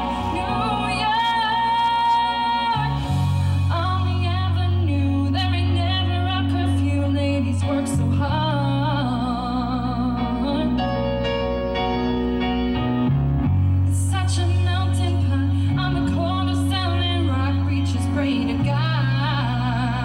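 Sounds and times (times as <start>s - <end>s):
woman singing into a microphone: 0.0s - 11.3s, 13.9s - 20.0s
instrumental accompaniment: 0.0s - 20.0s.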